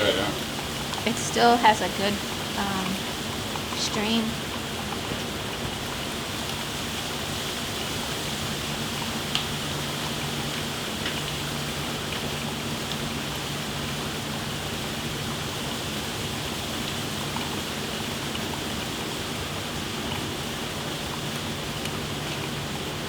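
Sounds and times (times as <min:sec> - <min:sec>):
flowing liquid rushing: 0:00.0 - 0:23.0.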